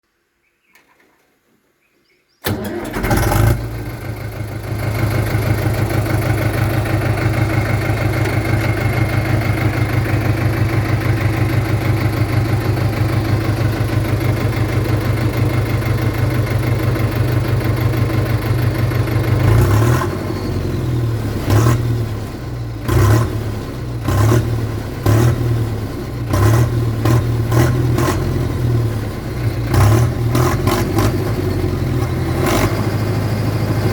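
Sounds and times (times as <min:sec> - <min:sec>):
tractor diesel engine chugging: 0:02.4 - 0:33.9.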